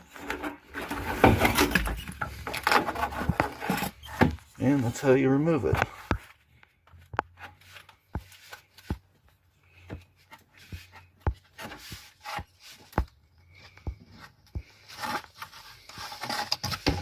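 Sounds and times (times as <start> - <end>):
rubbing and rustling: 0.0 - 5.0, 7.3 - 17.0.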